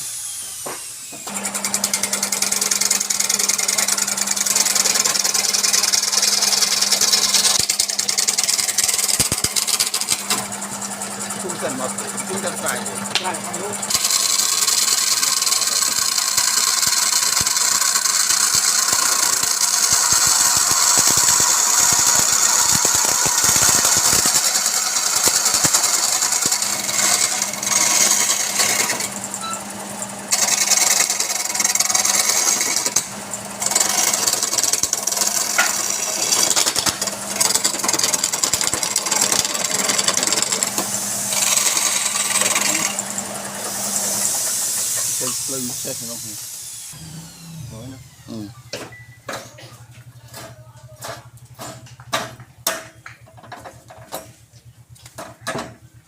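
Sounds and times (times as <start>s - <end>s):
tool shaving spinning wood: 0.0s - 48.5s
lathe motor humming: 0.0s - 48.8s.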